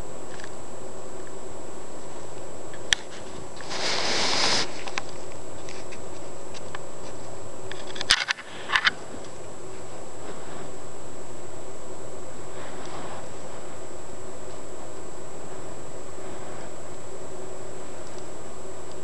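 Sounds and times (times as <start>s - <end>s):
rustling: 0.2s - 19.0s.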